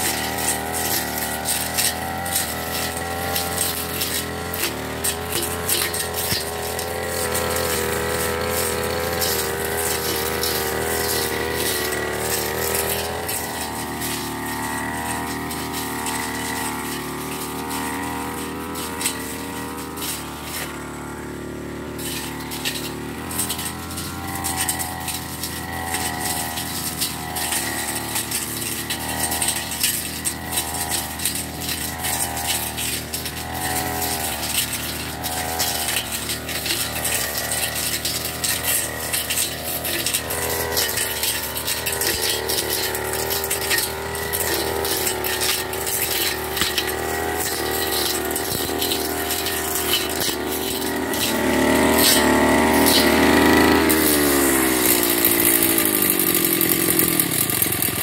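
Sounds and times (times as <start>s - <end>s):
brush cutter engine revving: 0.0s - 58.0s.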